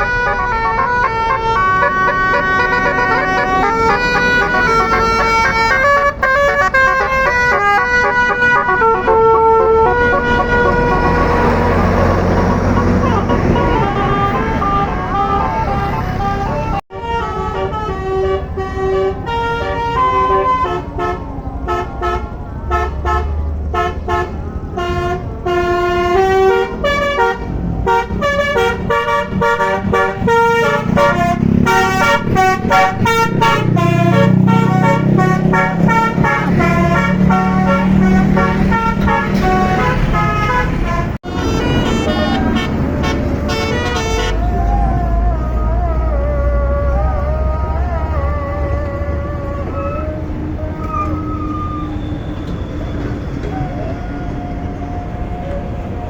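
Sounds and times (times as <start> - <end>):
bus horn playing melody: 0.0 - 52.1
bus engine running: 0.0 - 56.0.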